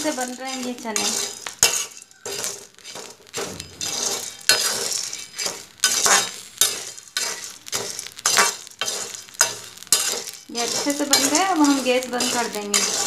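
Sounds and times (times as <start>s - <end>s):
metal spatula scraping in a pan: 0.0s - 13.0s.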